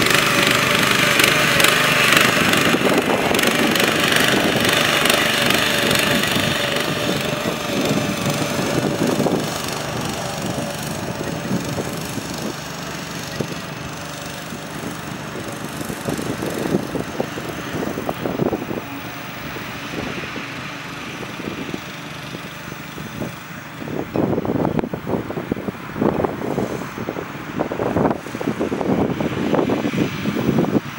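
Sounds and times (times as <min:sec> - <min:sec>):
small engine running: 0:00.0 - 0:30.9.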